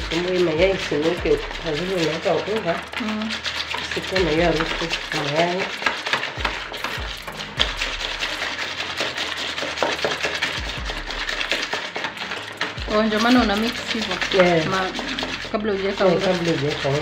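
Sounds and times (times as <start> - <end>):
wet slosh of egg mixture: 0.0 - 17.0
whisk beating in plastic bowl: 0.0 - 17.0.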